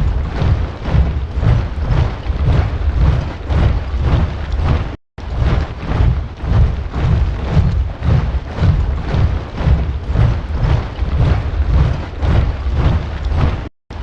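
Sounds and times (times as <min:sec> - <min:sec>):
soldiers marching in step: 0:00.0 - 0:14.0.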